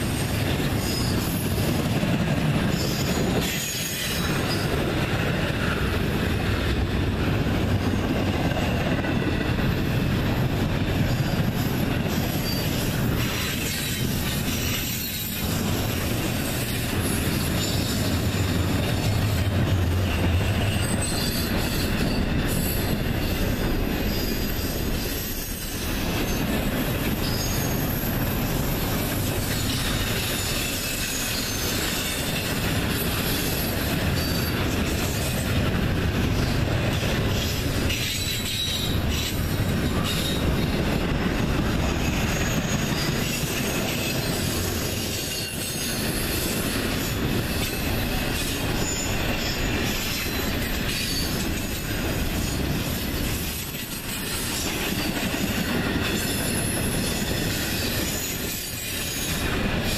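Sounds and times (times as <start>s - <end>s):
freight train wheels on rail: 0.0s - 59.9s
rail cars rattling: 0.0s - 59.9s.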